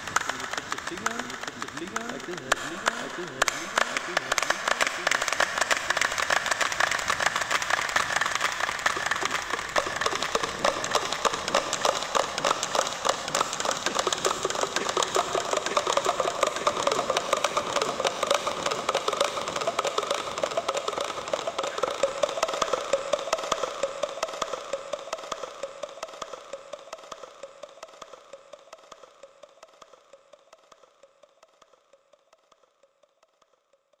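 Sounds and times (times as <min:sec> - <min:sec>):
clap echo: 0:00.0 - 0:31.7
people clapping hands: 0:00.0 - 0:31.7.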